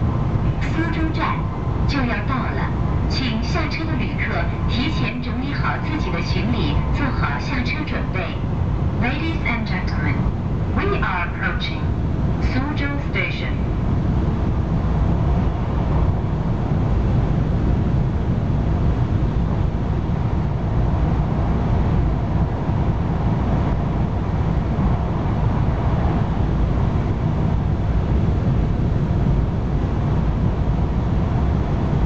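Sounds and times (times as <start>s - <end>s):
high-speed train rumble inside cabin: 0.0s - 32.0s.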